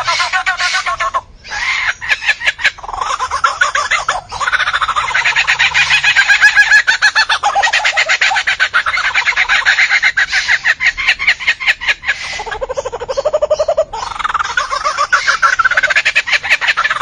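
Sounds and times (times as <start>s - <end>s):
bird calling rapid notes: 0.0s - 17.0s.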